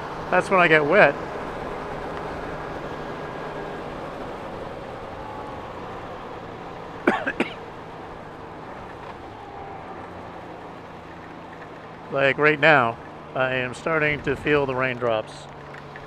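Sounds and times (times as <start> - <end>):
traffic on wet road: 0.0 - 16.0.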